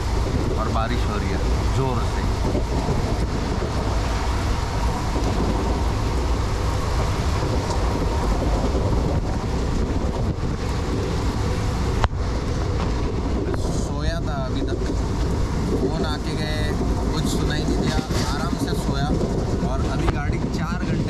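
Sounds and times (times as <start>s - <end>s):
train running noise: 0.0s - 21.0s
wind and rain rushing: 0.0s - 21.0s
wind buffeting microphone: 0.0s - 21.0s.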